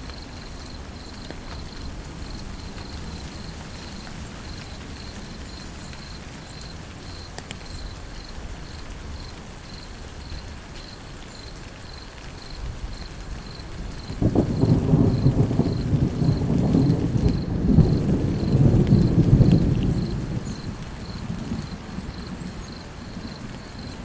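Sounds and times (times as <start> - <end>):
cricket chirping: 0.0 - 24.0
steady rain falling: 0.0 - 24.0.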